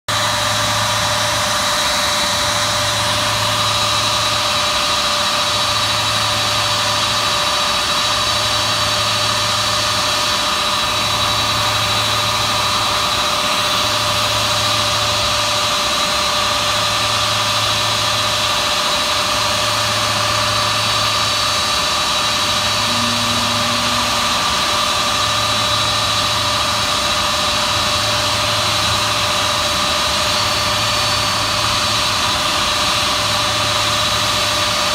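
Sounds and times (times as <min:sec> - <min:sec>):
low engine throb: 0:00.1 - 0:34.5
jet engines idling: 0:00.1 - 0:34.9.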